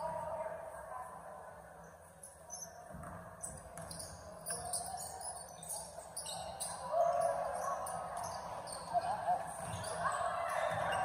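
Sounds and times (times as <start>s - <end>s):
faint echoing voices: 0.0s - 11.0s
sneakers squeaking: 2.2s - 11.0s.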